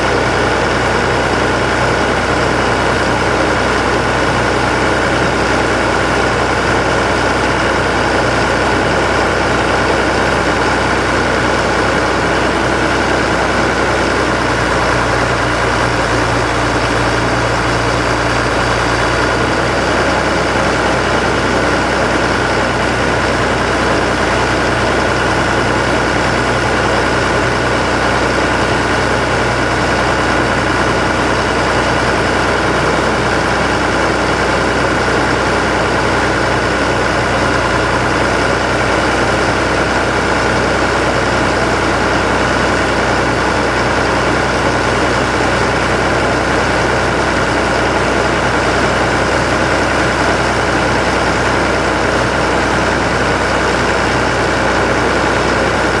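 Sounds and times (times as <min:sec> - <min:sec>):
machine engine running: 0:00.0 - 0:56.0.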